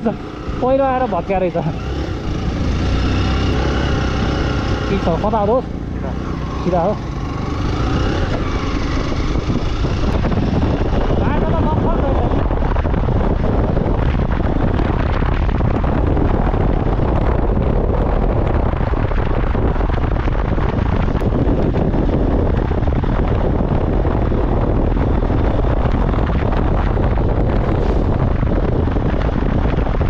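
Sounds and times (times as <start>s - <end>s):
motorcycle running: 0.0s - 30.0s
wind rumble on microphone: 0.0s - 30.0s.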